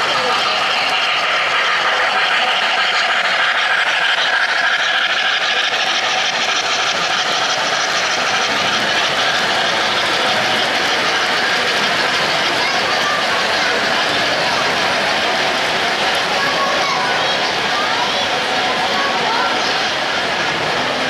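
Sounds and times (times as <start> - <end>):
model train wheels rattling on track: 0.0 - 21.0.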